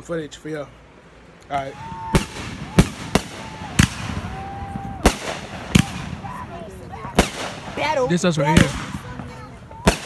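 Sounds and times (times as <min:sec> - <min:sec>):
fireworks whistling: 0:01.6 - 0:10.0
fireworks bangs: 0:01.7 - 0:10.0.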